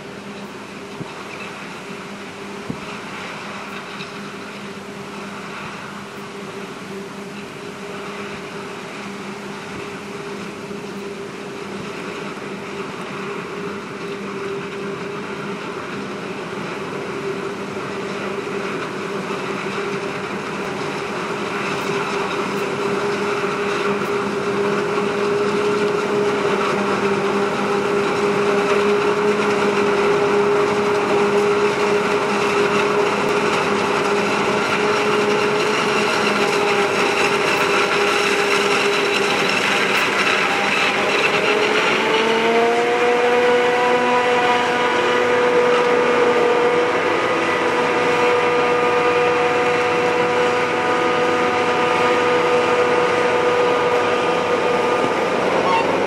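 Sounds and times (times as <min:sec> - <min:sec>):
forage harvester machine drone: 0:00.0 - 0:56.0.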